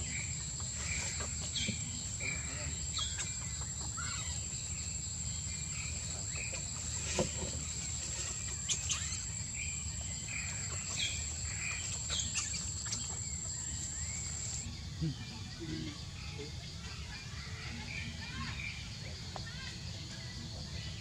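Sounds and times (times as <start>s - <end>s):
bird-like chirps: 0.0s - 19.7s
insect whine: 0.0s - 21.0s.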